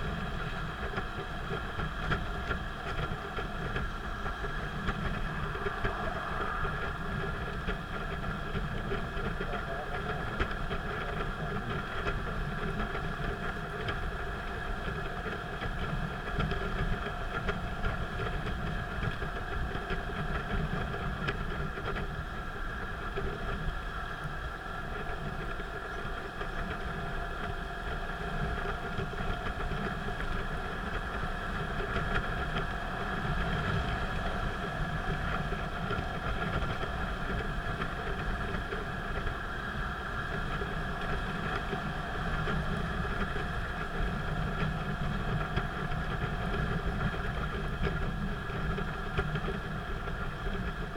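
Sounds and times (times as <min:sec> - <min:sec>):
vehicle engine and road noise: 0:00.0 - 0:50.9.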